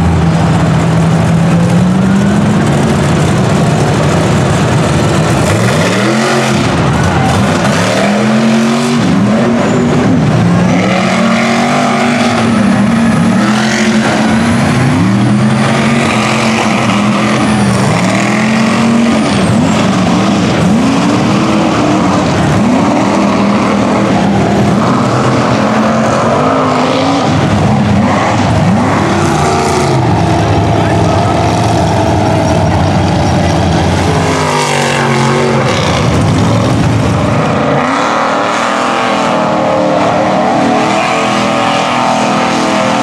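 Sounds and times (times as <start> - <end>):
truck engines revving: 0.0 - 43.0.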